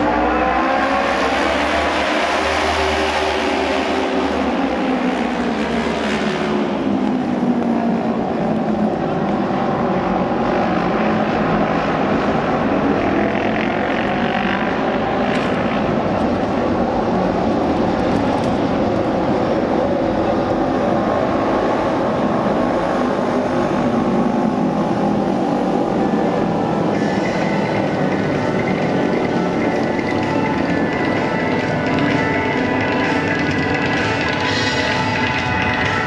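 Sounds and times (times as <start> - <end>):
racing motorcycle engines: 0.0 - 36.0.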